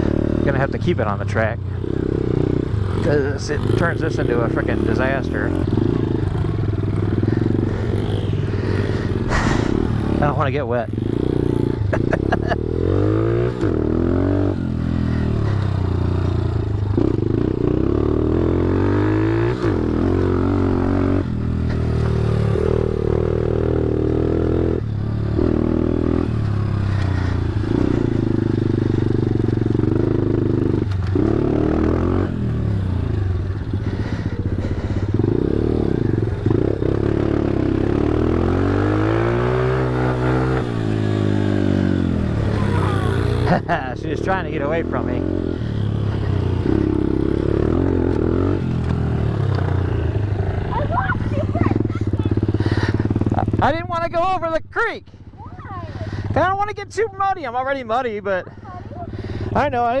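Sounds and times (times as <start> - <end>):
motorbike engine revving: 0.0 - 54.0, 55.2 - 56.6, 58.4 - 60.0.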